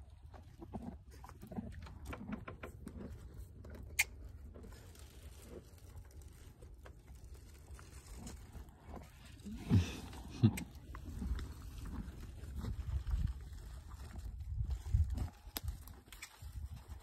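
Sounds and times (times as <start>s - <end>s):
horse chewing crunches: 0.0s - 17.0s.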